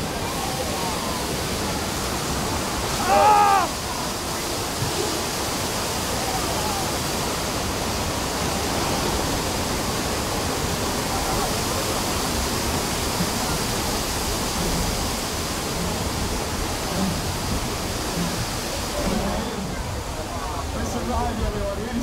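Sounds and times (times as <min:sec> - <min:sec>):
torrent of water cascading: 0:00.0 - 0:22.0.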